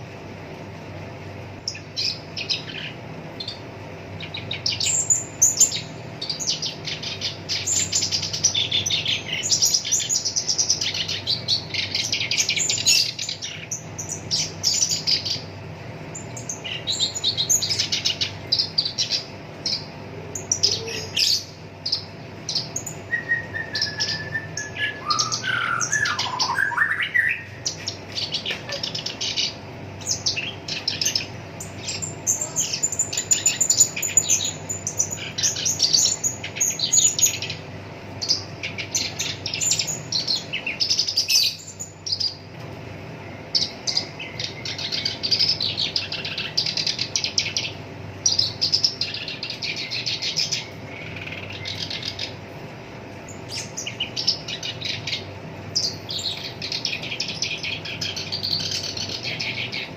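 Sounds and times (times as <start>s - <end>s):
faint steady hum: 0.0s - 59.9s
warbler singing chattering song: 0.0s - 59.9s.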